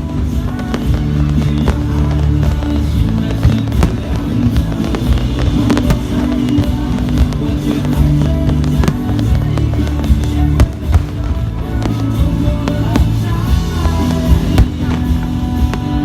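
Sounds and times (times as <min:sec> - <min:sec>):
fireworks bangs: 0:00.0 - 0:16.0
loud music: 0:00.0 - 0:16.0.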